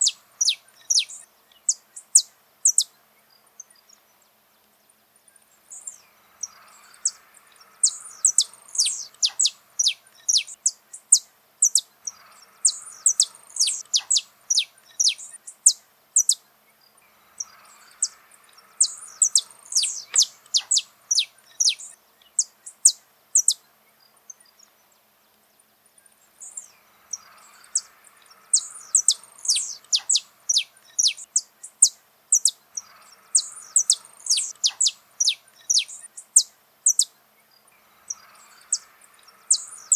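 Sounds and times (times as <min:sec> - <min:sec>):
finch singing: 0:00.0 - 0:25.1, 0:26.0 - 0:39.9.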